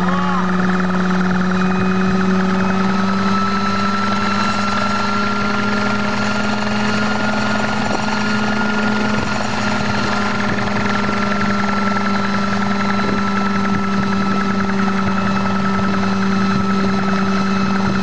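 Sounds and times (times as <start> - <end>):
helicopter engine hum: 0.0 - 18.0
rotor whine: 0.0 - 18.0.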